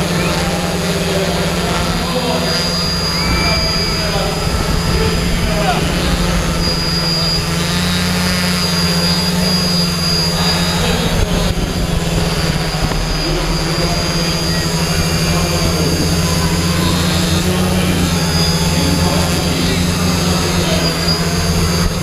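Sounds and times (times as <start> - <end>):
drone motors humming: 0.0 - 22.0
thin high whine: 0.0 - 22.0.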